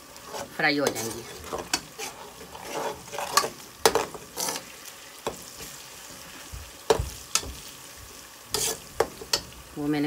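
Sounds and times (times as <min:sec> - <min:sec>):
food sizzling in oil: 0:00.0 - 0:10.0
spatula scraping a pot: 0:00.2 - 0:07.8, 0:08.5 - 0:09.6.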